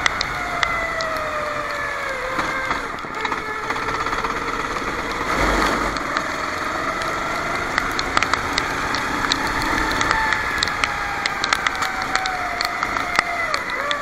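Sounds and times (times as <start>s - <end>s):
water drops ticking: 0.0s - 5.2s, 5.9s - 14.0s
kart engine running: 0.0s - 14.0s.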